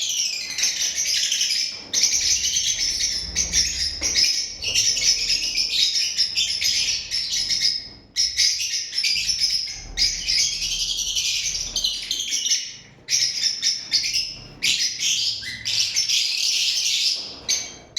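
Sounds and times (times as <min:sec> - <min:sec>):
lovebirds chattering: 0:00.0 - 0:17.9.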